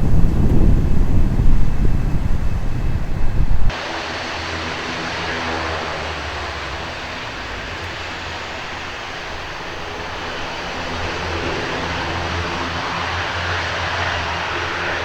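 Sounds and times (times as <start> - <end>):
turboprop airliner droning: 0.0 - 15.0.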